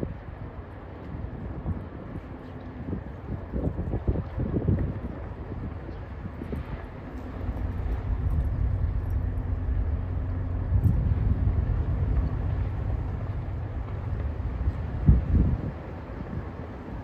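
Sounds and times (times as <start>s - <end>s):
ship engines rumbling: 0.0s - 17.0s.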